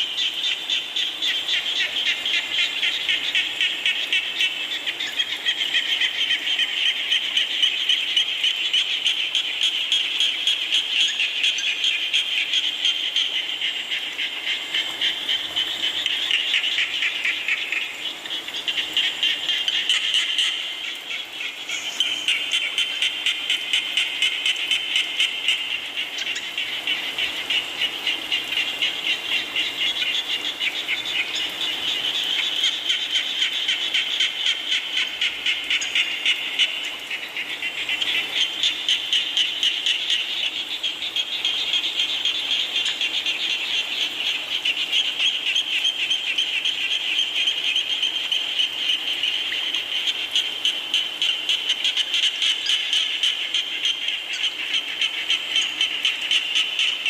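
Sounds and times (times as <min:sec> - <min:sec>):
frogs calling in trills: 0:00.0 - 0:57.0
rain hiss: 0:00.0 - 0:57.0.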